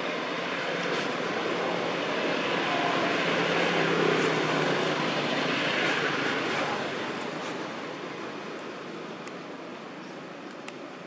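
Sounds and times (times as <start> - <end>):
vehicle engine hum with hiss: 0.0 - 11.0.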